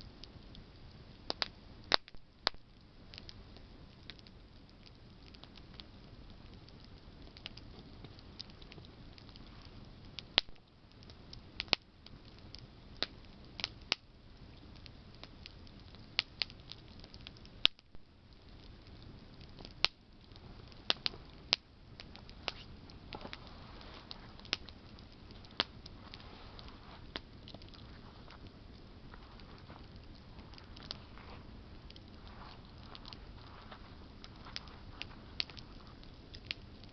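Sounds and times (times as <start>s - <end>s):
campfire crackling and popping: 0.0s - 36.9s
hiss of flames: 0.0s - 36.9s.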